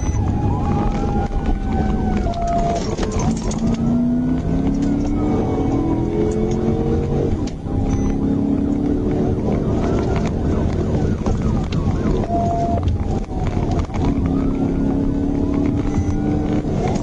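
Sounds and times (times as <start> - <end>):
car engine accelerating hard: 0.0 - 17.0
police siren wailing: 0.0 - 17.0
road noise: 0.0 - 17.0.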